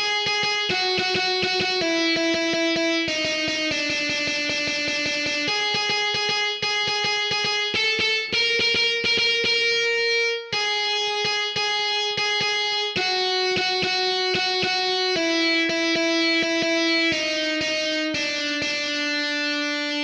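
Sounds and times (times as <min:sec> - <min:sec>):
distorted electric guitar picking: 0:00.0 - 0:20.0.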